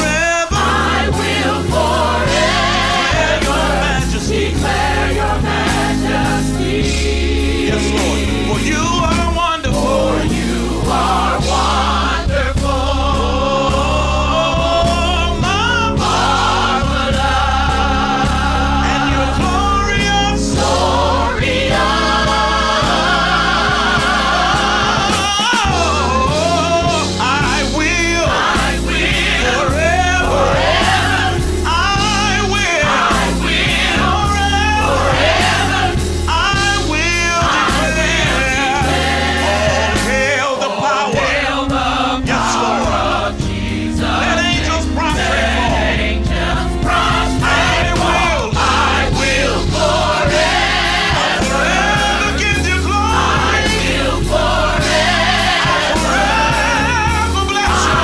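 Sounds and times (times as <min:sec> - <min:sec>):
gospel choir singing: 0:00.0 - 0:58.0
worship band playing: 0:00.0 - 0:58.0.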